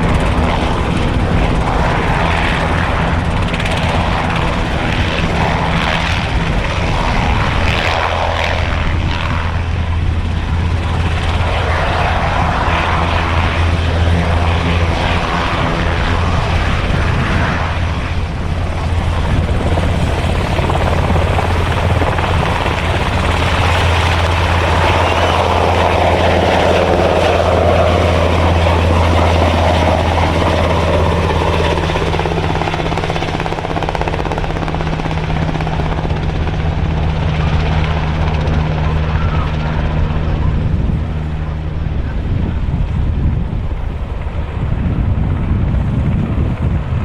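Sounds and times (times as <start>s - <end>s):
helicopter rotor and engine: 0.0s - 47.0s.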